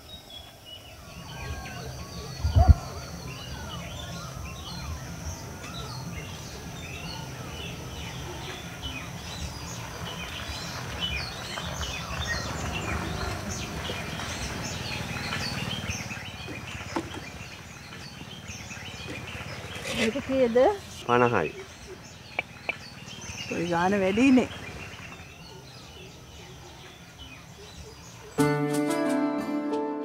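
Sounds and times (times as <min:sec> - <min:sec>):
birds chirping and singing: 0:00.0 - 0:28.4.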